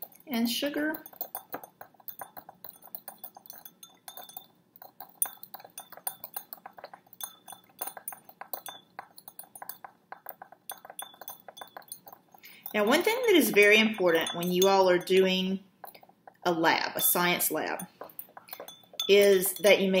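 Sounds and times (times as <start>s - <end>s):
plastic knife clinking against glass: 0.0s - 16.4s, 17.2s - 20.0s.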